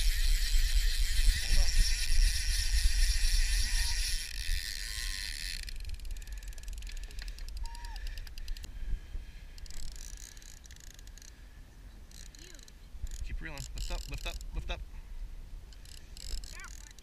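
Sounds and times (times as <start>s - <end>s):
fishing reel drag clicking: 0.0s - 8.7s, 9.5s - 11.5s, 12.1s - 14.6s, 15.7s - 17.0s.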